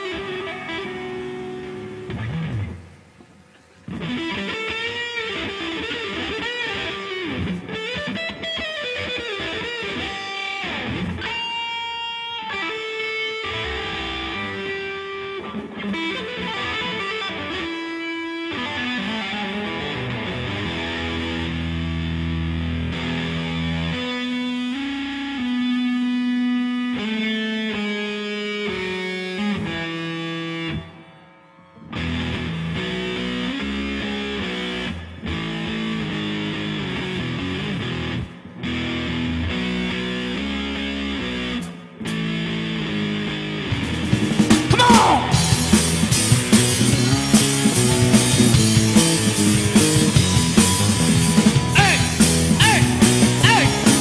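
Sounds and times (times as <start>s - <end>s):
guitar melody with bent notes: 0.0s - 54.0s.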